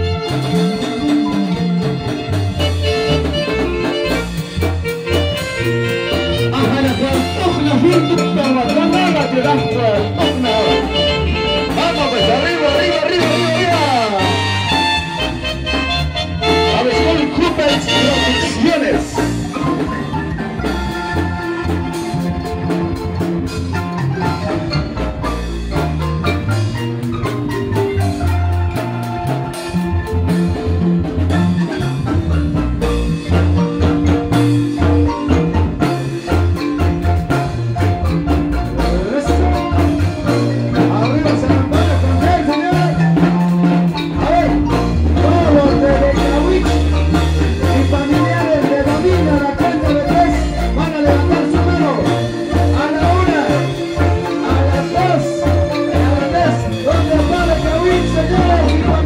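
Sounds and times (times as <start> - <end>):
marimba ensemble playing: 0.0 - 59.0.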